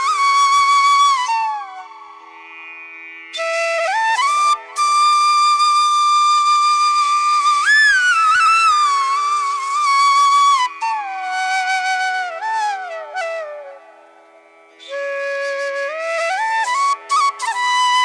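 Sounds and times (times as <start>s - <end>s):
solo flute: 0.0s - 18.0s.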